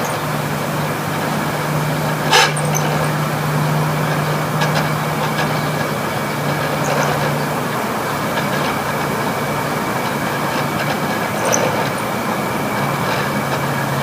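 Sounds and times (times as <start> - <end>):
compressor hum: 0.0 - 14.0
fan blades sloshing water: 0.0 - 14.0.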